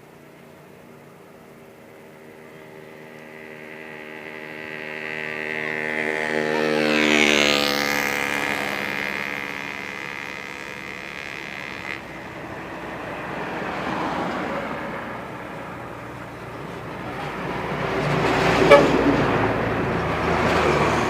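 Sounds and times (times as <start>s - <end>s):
bus engine drone passing: 0.0s - 21.0s.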